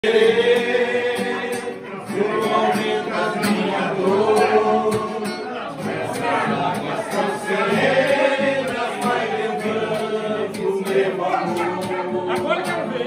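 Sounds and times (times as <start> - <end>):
acoustic guitar strumming: 0.0 - 13.0
men singing: 0.0 - 13.0.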